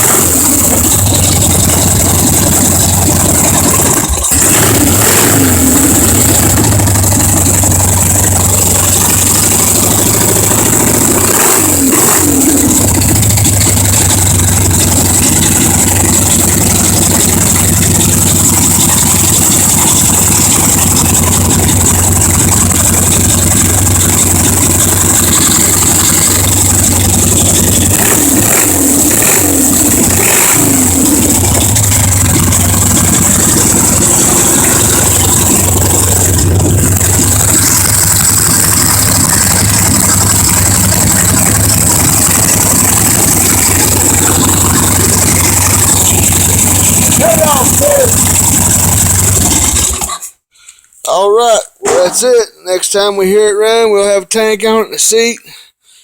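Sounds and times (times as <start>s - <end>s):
motorcycle engine running: 0.0s - 50.2s
motorcycle engine revving: 0.0s - 50.3s.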